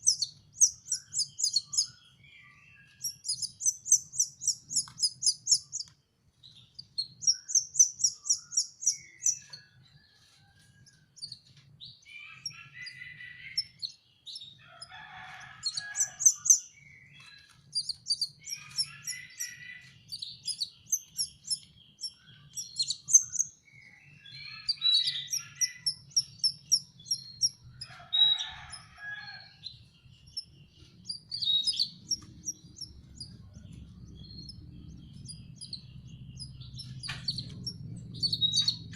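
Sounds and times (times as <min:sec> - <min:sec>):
chicks chirping: 0:00.0 - 0:38.9.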